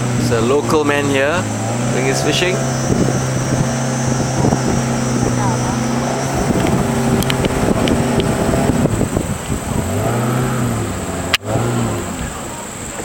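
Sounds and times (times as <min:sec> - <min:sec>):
outboard motor running: 0:00.0 - 0:13.0
wind on microphone: 0:00.0 - 0:13.0.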